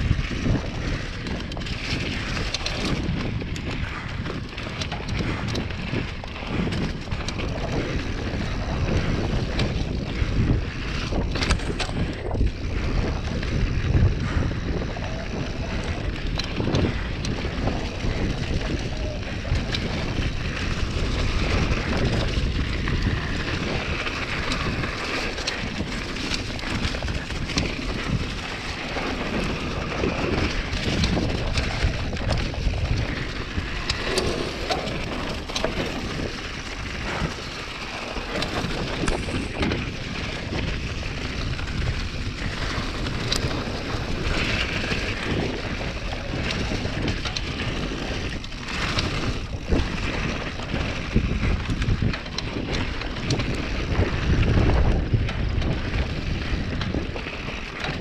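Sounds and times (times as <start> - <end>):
bike clattering over bumps: 0.0 - 58.0
tyres rumbling over dirt: 0.0 - 58.0
wind buffeting microphone: 0.0 - 58.0.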